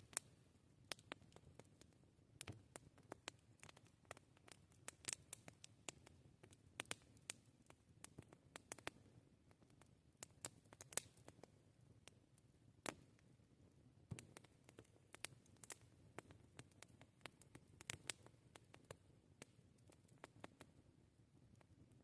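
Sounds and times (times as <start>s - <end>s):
campfire crackling: 0.0s - 22.0s
faint low hiss: 0.0s - 22.0s.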